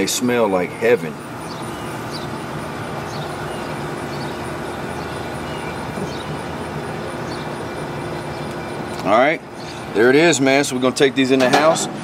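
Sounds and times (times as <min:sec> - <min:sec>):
low mechanical hum: 0:00.0 - 0:12.0
outdoor background rumble: 0:00.0 - 0:12.0.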